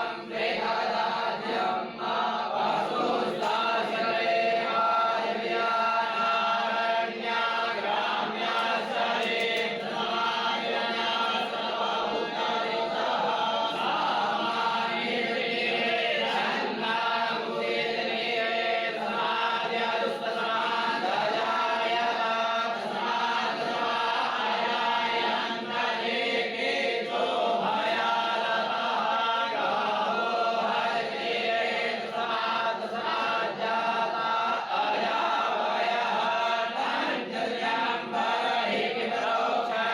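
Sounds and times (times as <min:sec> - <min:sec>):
voices chanting in unison: 0:00.0 - 0:39.9.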